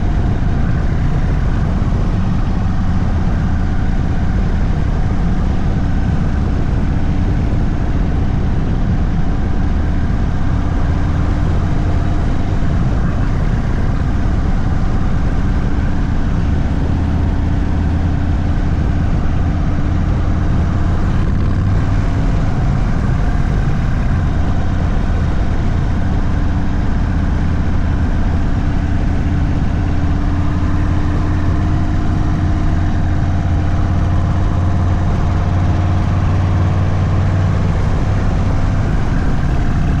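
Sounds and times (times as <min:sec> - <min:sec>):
motorcycle engine at low revs: 0:00.0 - 0:40.0.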